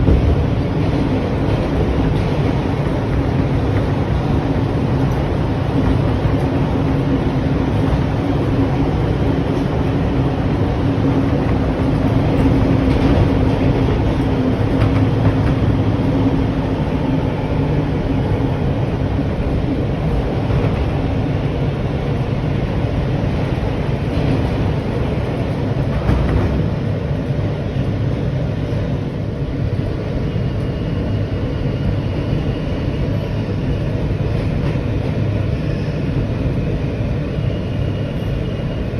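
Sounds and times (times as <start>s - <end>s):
subway train rumble: 0.0s - 38.9s.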